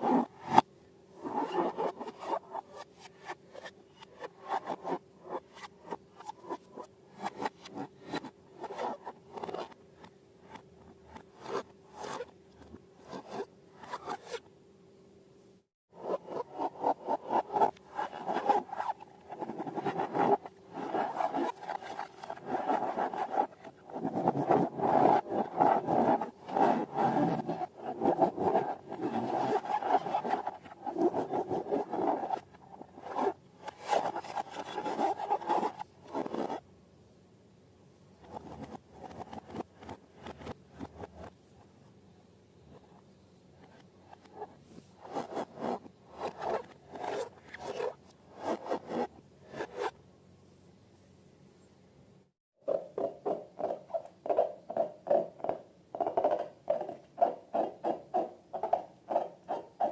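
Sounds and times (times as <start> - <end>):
rubbing and scraping of balloons: 0.0 - 14.4, 15.9 - 36.6, 38.2 - 41.4, 43.6 - 50.0, 52.6 - 59.9.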